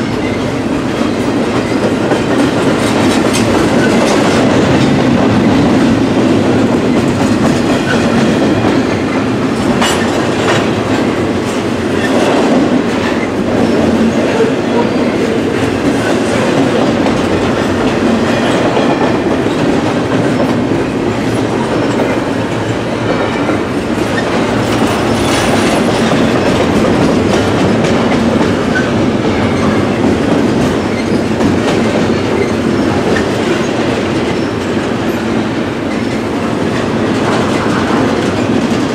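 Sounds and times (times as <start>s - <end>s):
train rolling past: 0.0s - 38.9s
wheels clacking over rail joints: 0.0s - 38.9s.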